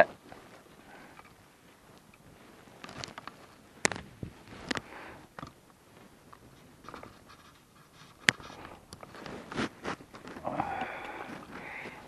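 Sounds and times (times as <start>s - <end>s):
soft rustling: 0.1s - 12.0s.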